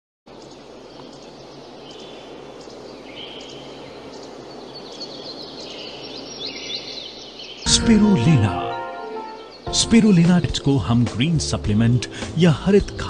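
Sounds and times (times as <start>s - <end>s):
small birds chirping: 0.3s - 11.5s
steady background hiss: 0.3s - 13.0s.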